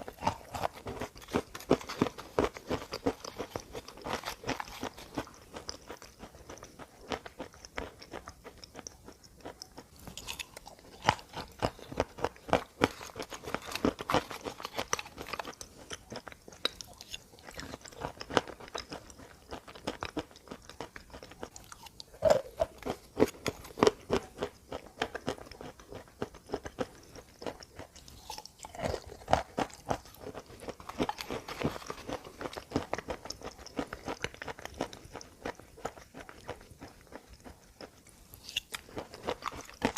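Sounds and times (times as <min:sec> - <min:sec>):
person crunching brittle chunks: 0:00.0 - 0:39.9.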